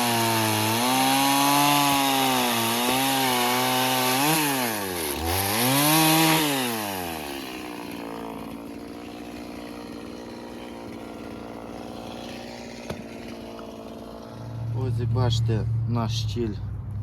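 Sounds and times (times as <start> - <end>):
chainsaw revving and idling: 0.0 - 16.5.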